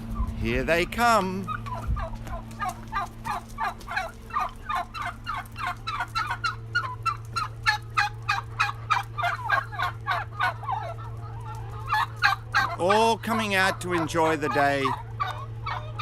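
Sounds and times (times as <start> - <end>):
chickens clucking: 0.0 - 16.0
steady low hum: 0.0 - 16.0.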